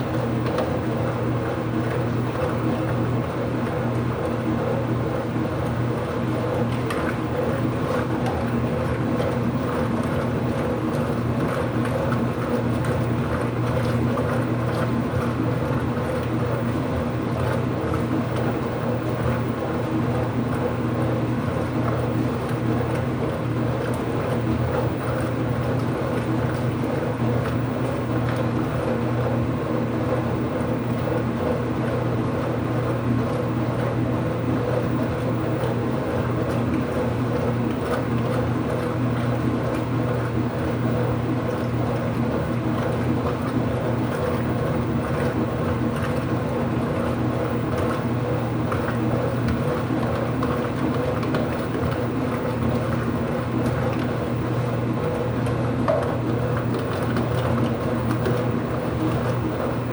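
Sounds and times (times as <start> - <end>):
washing machine hum: 0.0 - 59.9.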